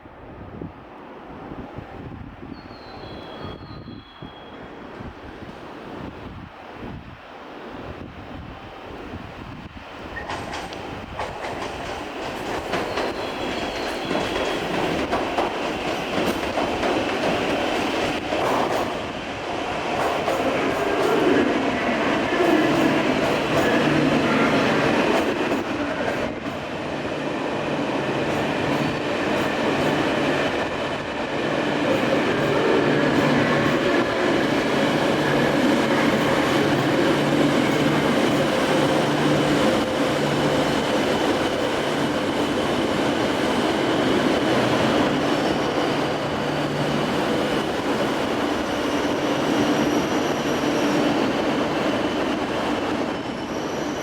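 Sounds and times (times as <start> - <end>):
train wheels rumbling on rail: 9.2 - 54.0.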